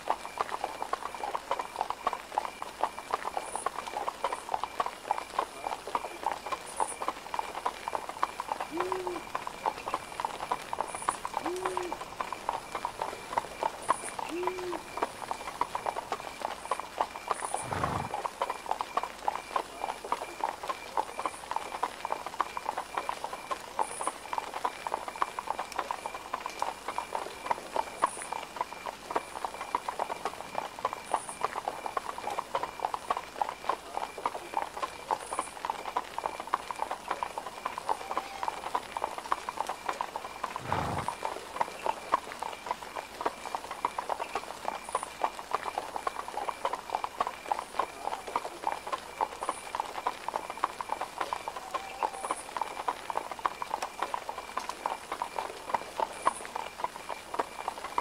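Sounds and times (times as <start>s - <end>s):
horse hooves on cobblestones: 0.0s - 58.0s.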